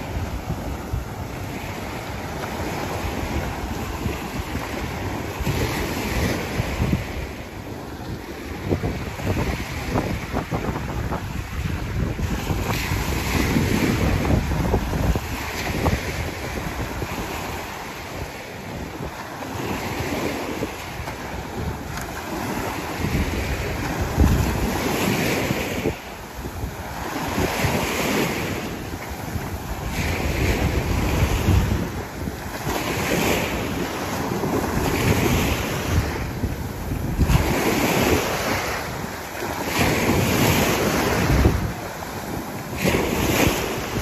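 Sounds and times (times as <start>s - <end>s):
small surf washing up beach: 0.0s - 44.0s
wind buffeting microphone: 0.0s - 44.0s.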